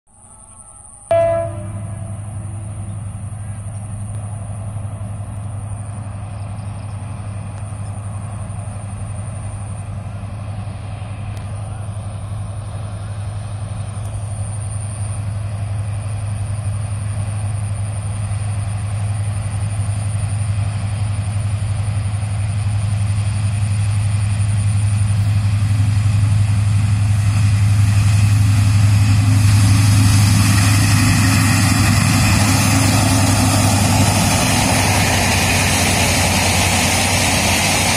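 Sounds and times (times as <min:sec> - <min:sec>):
locomotive engine drone: 0:00.1 - 0:37.9
train wheels on rails: 0:00.5 - 0:37.9.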